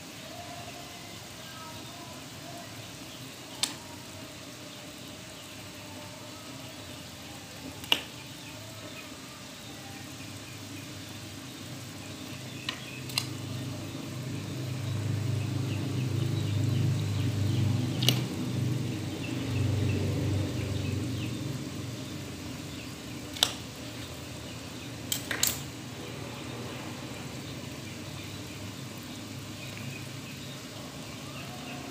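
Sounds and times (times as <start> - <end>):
water boiling in a pot: 0.0 - 31.9.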